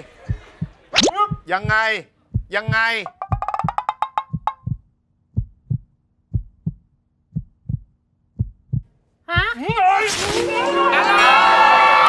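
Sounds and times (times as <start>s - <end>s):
heartbeat thumps: 0.0s - 9.9s.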